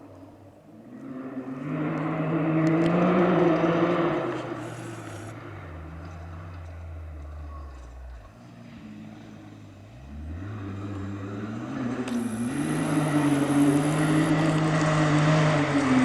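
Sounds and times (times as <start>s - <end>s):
rally vehicle engine accelerating: 0.2s - 16.0s.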